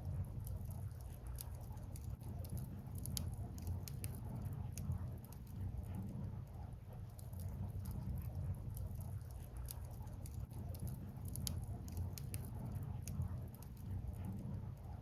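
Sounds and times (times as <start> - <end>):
firewood crackling in open fire: 0.0 - 14.9.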